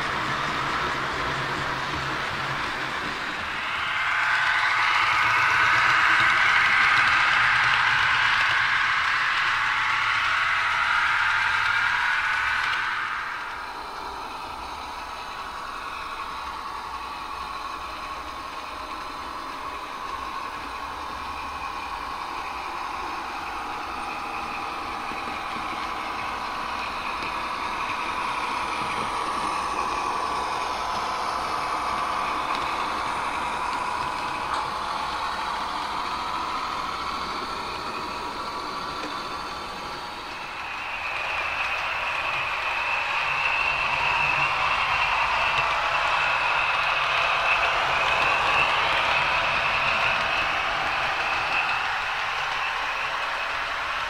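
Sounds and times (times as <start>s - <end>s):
model train diesel engine sound: 0.0s - 54.0s.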